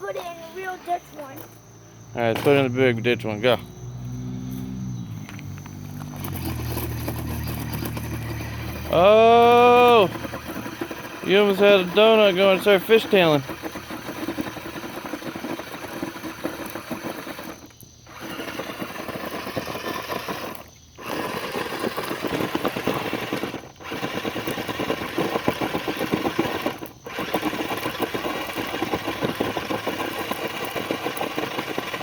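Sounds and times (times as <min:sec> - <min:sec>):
gravel clattering: 0:00.0 - 0:32.0
toy truck motor buzzing: 0:02.2 - 0:32.0.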